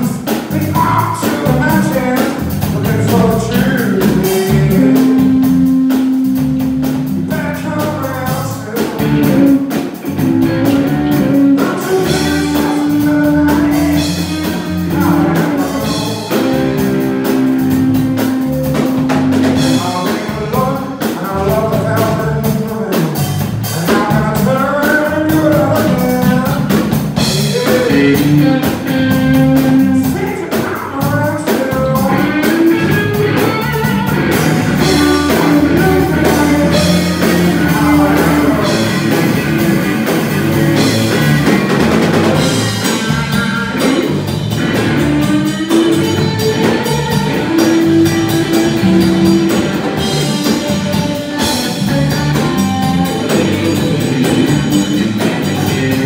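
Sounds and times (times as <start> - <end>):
electric guitar lead bending notes: 0.0 - 22.2, 23.2 - 56.0
blues-rock band playing: 0.0 - 56.0.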